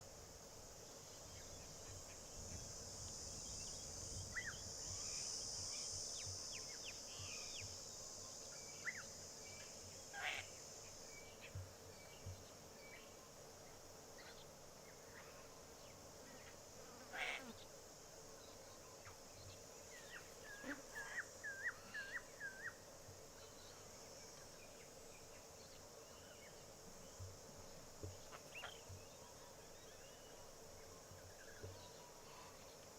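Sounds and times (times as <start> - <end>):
high insect buzz: 0.0 - 32.9.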